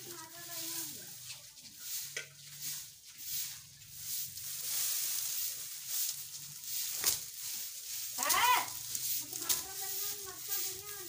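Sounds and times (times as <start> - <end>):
dry stalks rustling and crackling: 0.0 - 11.0
straw broom sweeping: 0.0 - 11.0.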